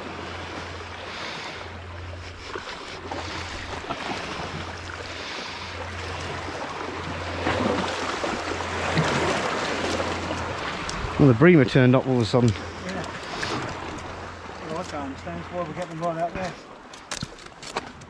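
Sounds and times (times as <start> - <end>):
steady low hum: 0.0 - 16.9
sea wash: 0.0 - 18.0.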